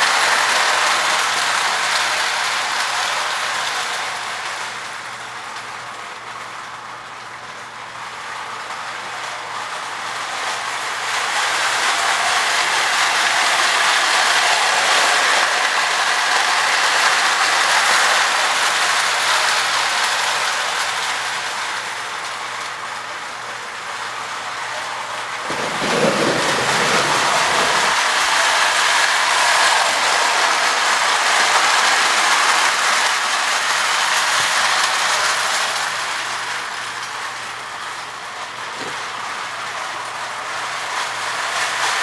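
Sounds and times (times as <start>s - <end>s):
toy train wheels clattering: 0.0s - 42.0s.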